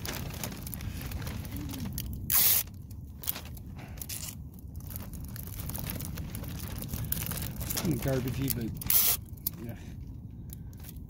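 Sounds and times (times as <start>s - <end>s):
paper crumpling: 0.0s - 9.4s
newspaper crinkling and rustling: 0.0s - 9.6s
low rumble: 0.0s - 11.0s.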